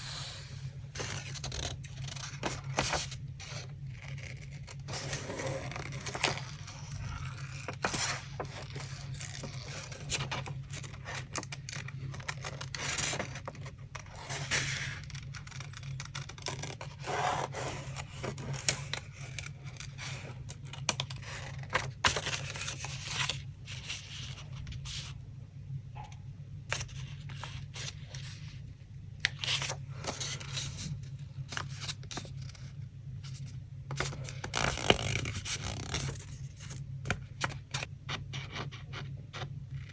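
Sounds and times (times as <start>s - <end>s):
paper rustling and scraping: 0.0s - 25.1s, 29.2s - 39.9s
steady low hum: 0.0s - 39.9s.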